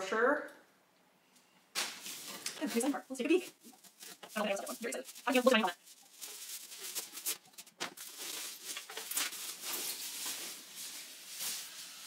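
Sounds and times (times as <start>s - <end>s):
plastic wrap crinkling: 1.8s - 12.0s
cloth bag rustling: 2.0s - 12.0s.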